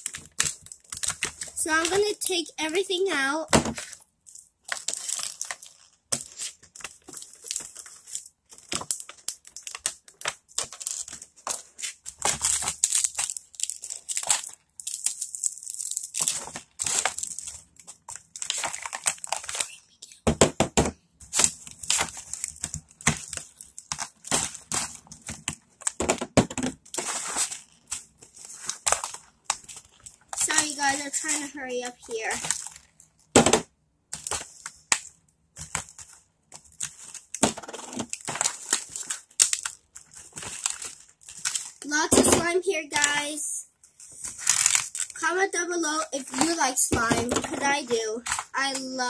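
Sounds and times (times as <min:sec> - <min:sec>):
packaging crinkling and rustling: 0:00.0 - 0:02.4, 0:03.7 - 0:20.0, 0:21.2 - 0:33.4, 0:34.1 - 0:45.3, 0:45.9 - 0:49.0.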